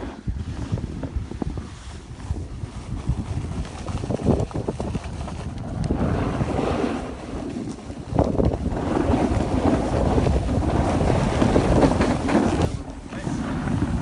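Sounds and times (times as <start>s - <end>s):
snowboards scraping over snow: 0.0s - 14.0s
wind buffeting microphone: 0.0s - 14.0s.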